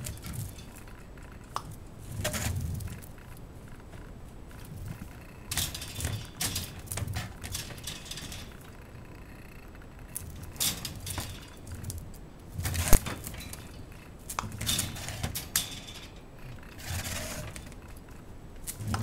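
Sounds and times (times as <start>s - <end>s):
wire panels rattling: 0.0s - 19.0s.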